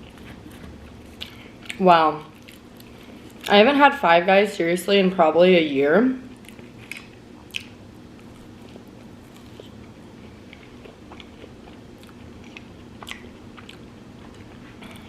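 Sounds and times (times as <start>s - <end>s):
person chewing food: 0.0s - 3.5s, 6.3s - 15.0s.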